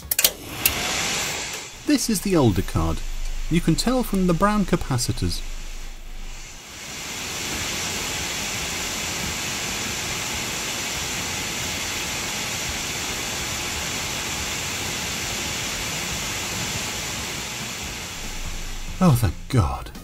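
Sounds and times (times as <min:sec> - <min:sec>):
computer cooling fan rushing: 0:00.1 - 0:19.8.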